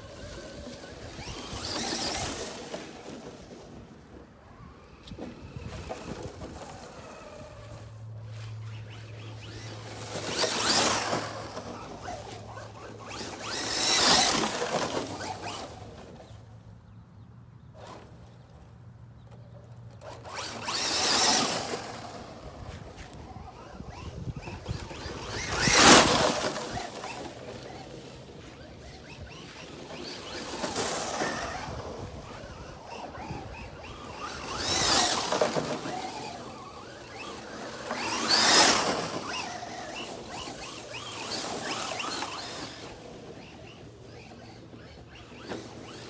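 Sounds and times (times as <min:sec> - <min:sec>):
rc car motor whine: 0:00.0 - 0:16.4, 0:17.7 - 0:46.0
tyres rustling through leaves: 0:00.0 - 0:16.6, 0:20.0 - 0:46.0.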